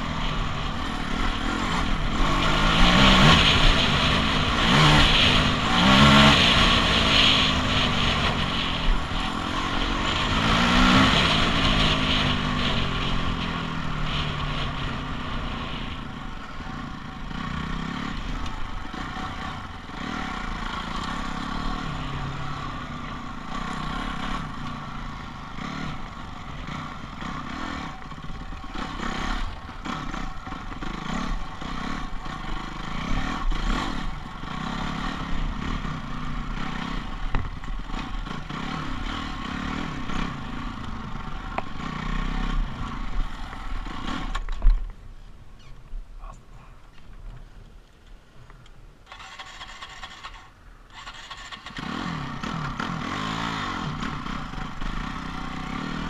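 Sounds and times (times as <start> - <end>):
dirt bike engine revving: 0.0 - 44.6, 49.0 - 56.0.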